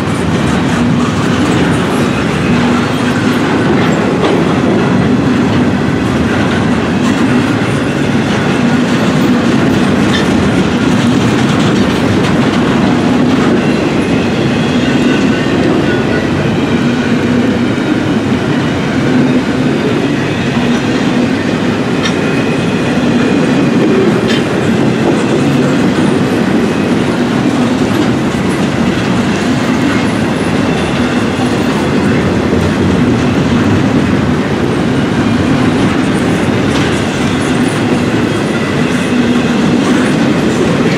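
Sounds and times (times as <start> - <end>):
freight train wheels clattering on rails: 0.0 - 40.9.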